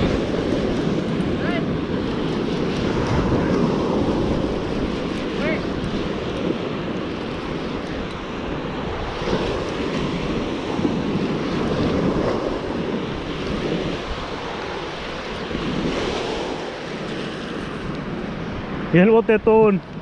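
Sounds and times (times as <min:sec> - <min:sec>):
wind noise on microphone: 0:00.0 - 0:19.0
ocean surf washing onto beach: 0:00.0 - 0:20.0.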